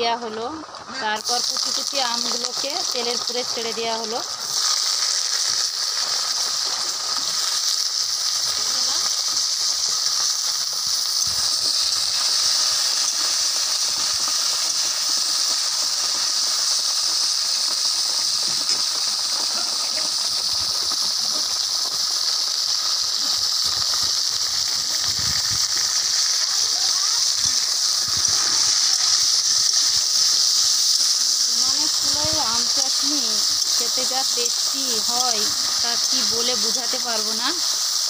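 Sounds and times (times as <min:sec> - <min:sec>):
mango pieces sizzling in hot oil: 0:00.0 - 0:38.0.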